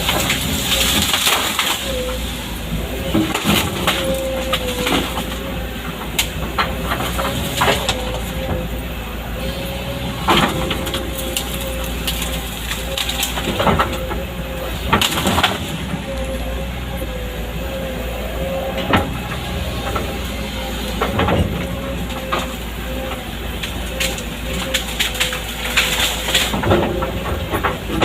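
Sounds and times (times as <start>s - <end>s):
excavator engine drone: 0.0s - 28.0s
steady machine whine: 0.0s - 28.0s.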